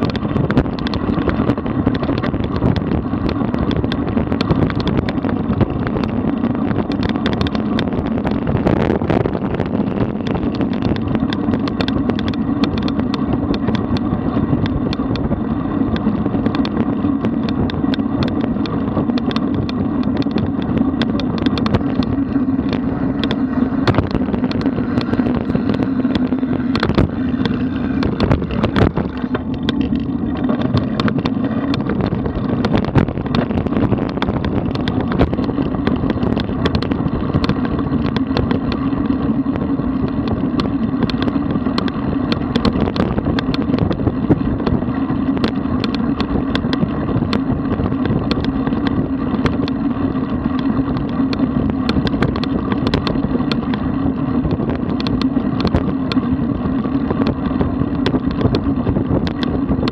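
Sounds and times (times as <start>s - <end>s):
bicycle clicks and knocks: 0.0s - 59.9s
tyres rumbling on road: 0.0s - 59.9s
wind on microphone: 0.0s - 59.9s.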